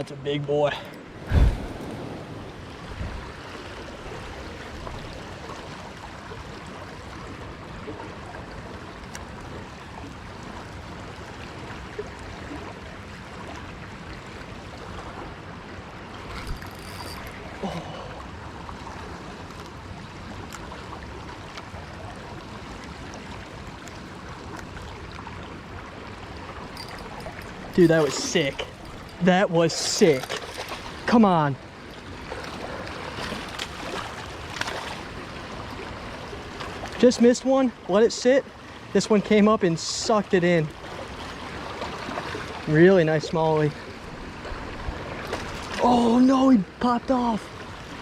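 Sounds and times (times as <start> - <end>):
flowing river water: 0.0 - 48.0.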